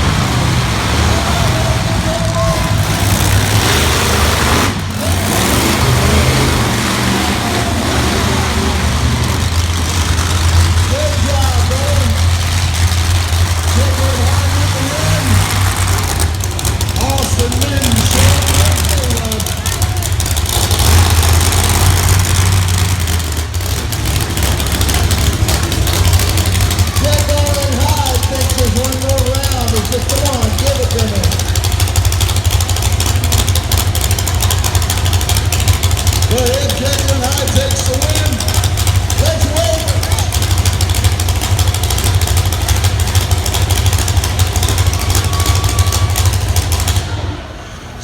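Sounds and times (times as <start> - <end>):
monster truck engine running: 0.0 - 48.0.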